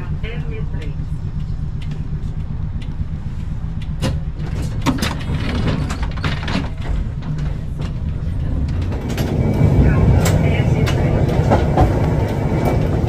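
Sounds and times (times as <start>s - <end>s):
tram clicks and knocks: 0.0s - 13.0s
tram rumbling: 0.0s - 13.0s.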